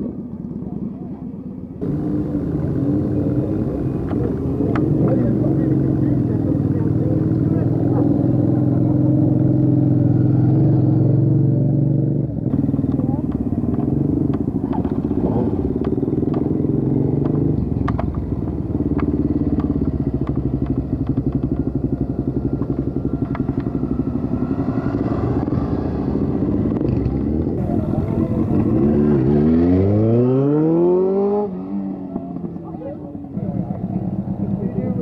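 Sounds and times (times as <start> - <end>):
motorcycle engine revving: 1.8 - 35.0.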